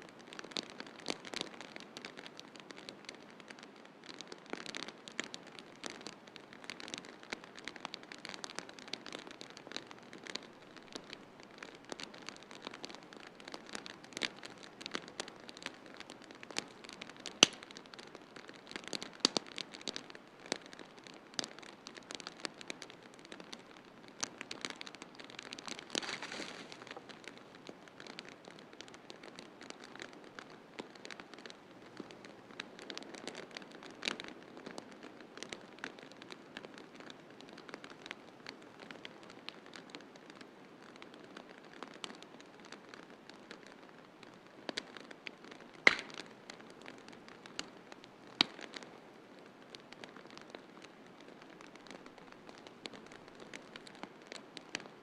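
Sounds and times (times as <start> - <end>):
wood fire crackling and popping: 0.1 - 55.0.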